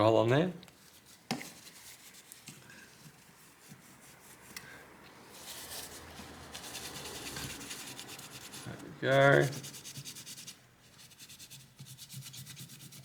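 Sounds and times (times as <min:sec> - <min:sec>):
cloth rubbing on circuit board: 0:00.9 - 0:04.6, 0:05.3 - 0:13.0.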